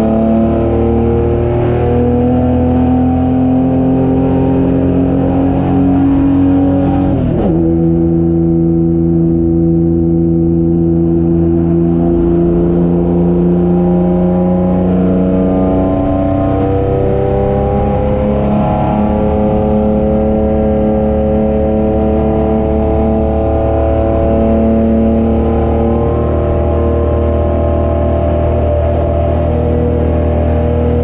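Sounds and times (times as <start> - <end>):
race car engine under load: 0.0 - 31.0.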